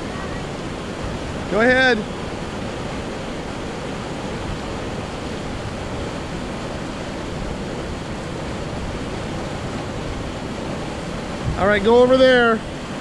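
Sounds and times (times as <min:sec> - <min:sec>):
creek rushing over cascade: 0:00.0 - 0:13.0.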